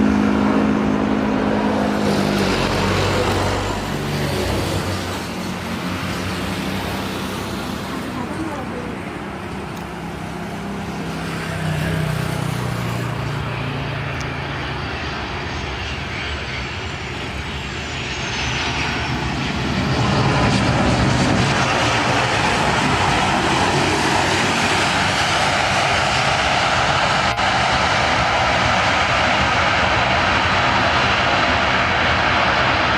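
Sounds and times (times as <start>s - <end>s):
airliner engine roar: 0.0s - 32.9s.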